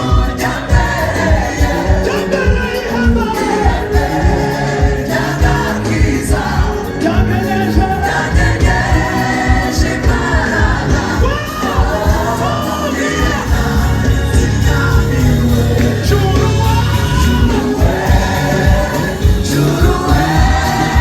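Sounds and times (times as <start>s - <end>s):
band with steady beat: 0.0s - 21.0s
gospel choir singing: 0.0s - 21.0s.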